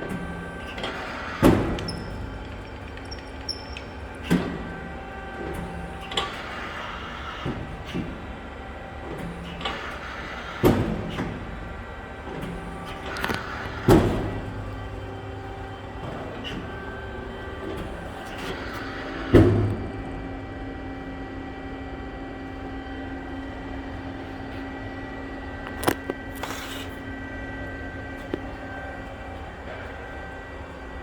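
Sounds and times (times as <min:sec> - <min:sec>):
hydraulic press brake humming: 0:00.0 - 0:31.0.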